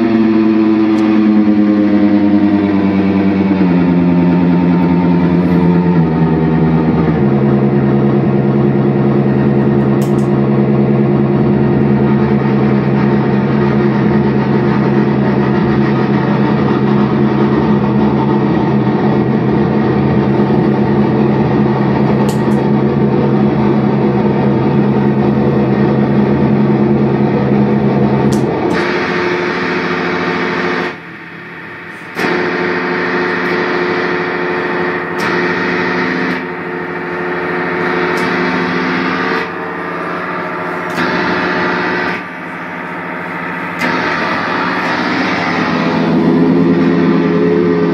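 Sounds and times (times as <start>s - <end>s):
distorted electric guitar drone: 0.0s - 47.9s.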